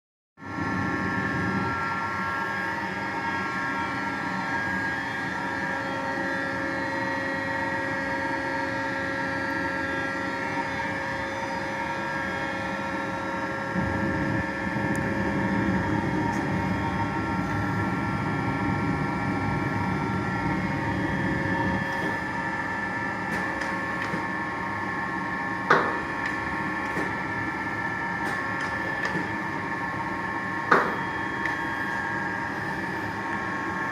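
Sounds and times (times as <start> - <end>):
lathe machine hum: 0.4 - 33.9
whining machine tones: 0.4 - 33.9.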